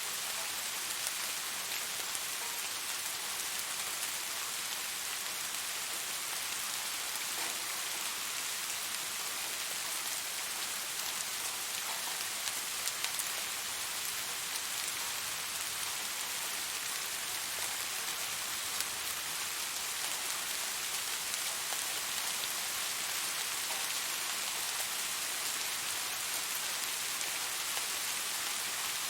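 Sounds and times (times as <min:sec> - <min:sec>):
rain pattering on surfaces: 0:00.0 - 0:29.0.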